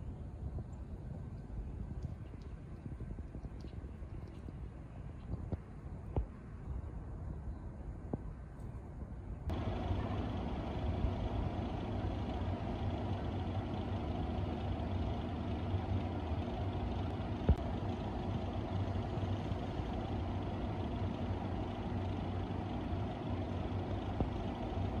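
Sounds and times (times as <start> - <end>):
low mechanical hum and rumble: 0.0 - 25.0.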